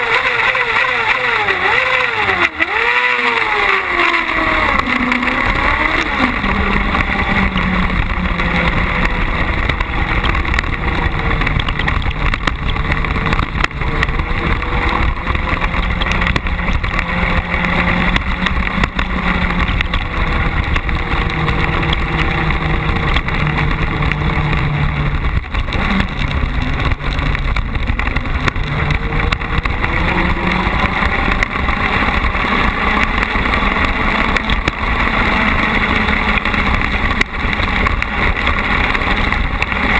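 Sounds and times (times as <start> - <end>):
buggy engine revving: 0.0 - 39.9
knocks and rattles: 4.2 - 39.9.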